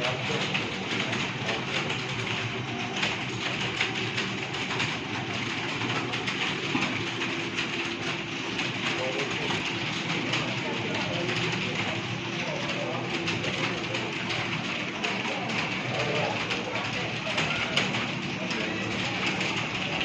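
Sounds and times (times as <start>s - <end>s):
many keyboards clattering: 0.0s - 20.0s.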